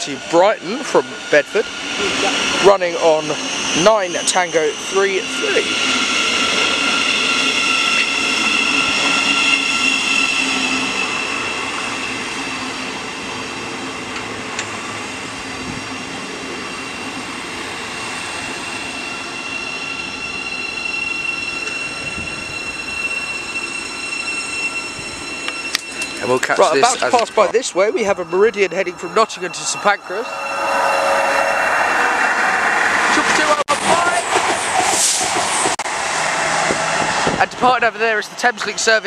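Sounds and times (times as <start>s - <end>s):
train wheel and running noise: 0.0s - 30.2s, 31.6s - 39.0s
high-pitched train whine: 0.0s - 39.0s.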